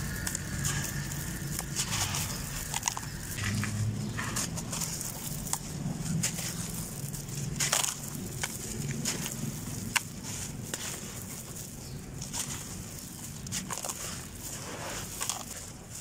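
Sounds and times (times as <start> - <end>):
sand block crunching: 0.0 - 16.0.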